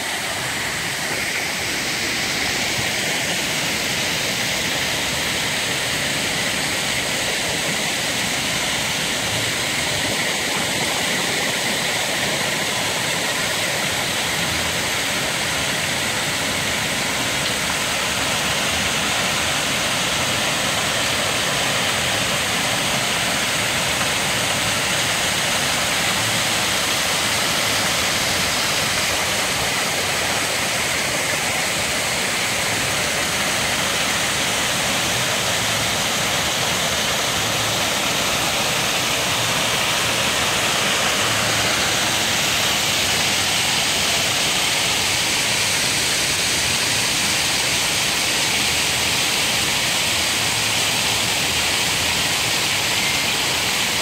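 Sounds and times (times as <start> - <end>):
waterfall and running water: 0.0 - 54.0.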